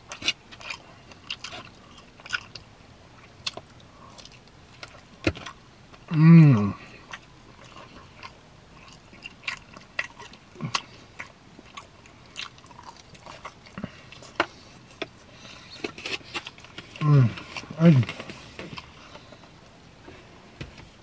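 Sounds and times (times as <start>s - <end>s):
chewing and lip-smacking: 0.0s - 6.2s, 6.9s - 19.4s.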